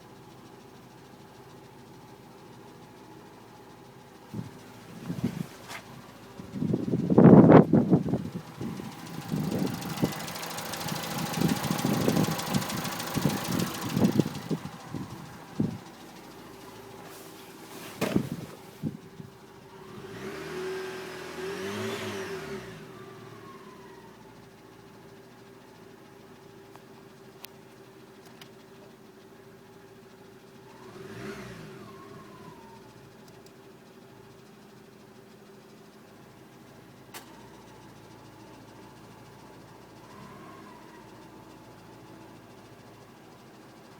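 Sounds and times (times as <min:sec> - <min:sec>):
car engine running: 0:00.0 - 0:43.9
engine tapping: 0:00.0 - 0:43.9.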